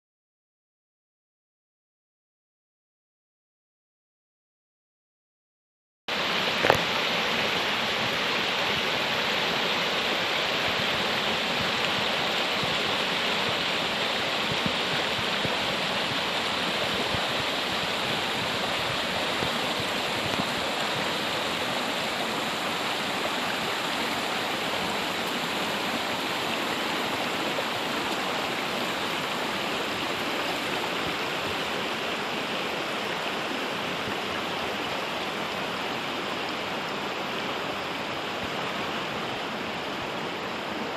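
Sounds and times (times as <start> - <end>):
rushing water: 6.1 - 40.9.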